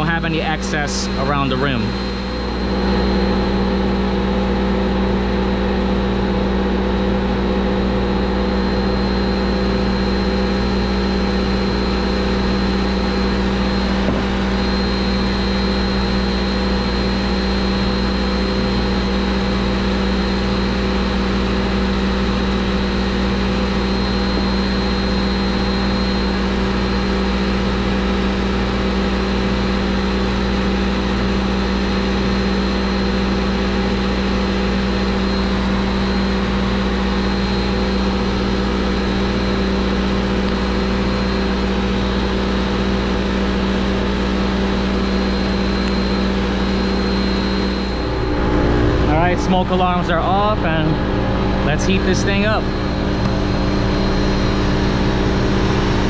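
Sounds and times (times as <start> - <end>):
machinery low hum: 0.0 - 56.0
thin high whine: 0.0 - 56.0.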